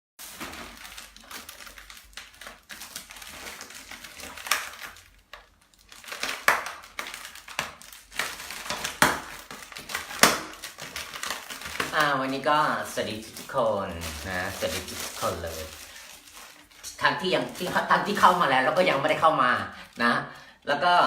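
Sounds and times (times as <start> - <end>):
rustling and crinkling: 0.2 - 20.0.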